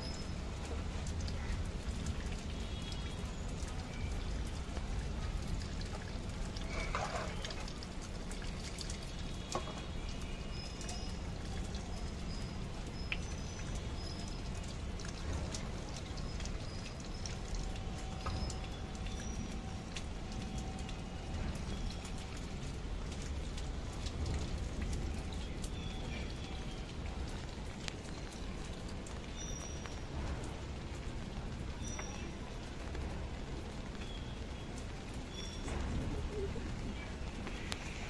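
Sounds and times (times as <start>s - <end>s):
rainwater dripping: 0.0s - 38.0s.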